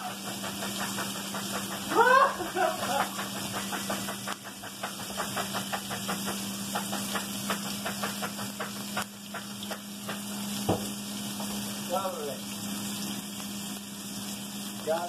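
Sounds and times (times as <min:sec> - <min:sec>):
bacon and onion sizzling in a wok: 0:00.0 - 0:15.0
hot fat crackling pops: 0:00.0 - 0:15.0.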